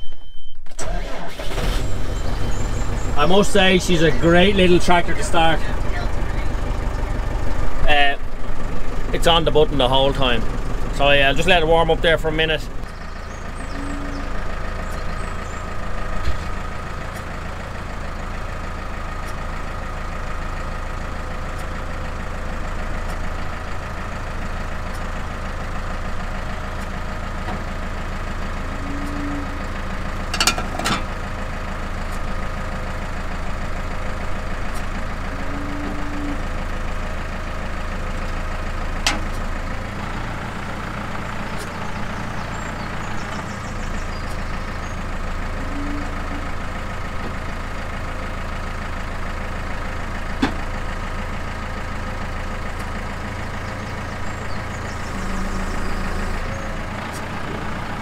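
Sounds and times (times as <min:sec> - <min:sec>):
tractor engine idling: 0:00.0 - 0:58.0.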